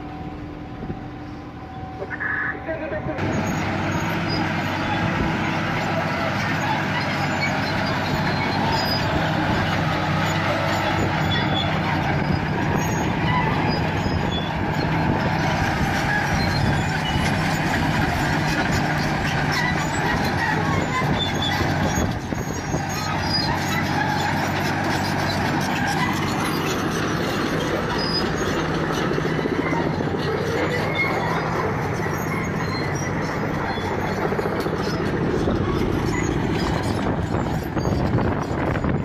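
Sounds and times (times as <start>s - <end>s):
large engine running: 0.0s - 39.0s.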